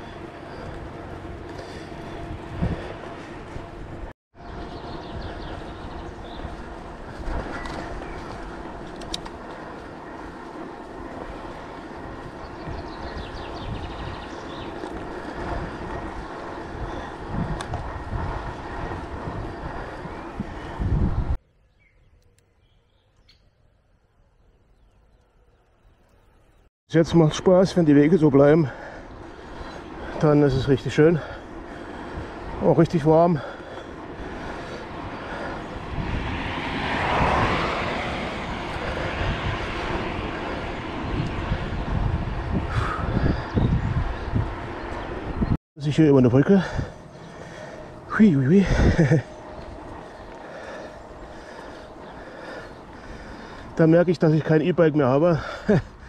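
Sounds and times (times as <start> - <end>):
vehicle passing: 0.0 - 21.4, 24.3 - 56.0
wind buffeting microphone: 0.0 - 21.4, 27.2 - 56.0
bicycle rolling noise: 0.0 - 56.0.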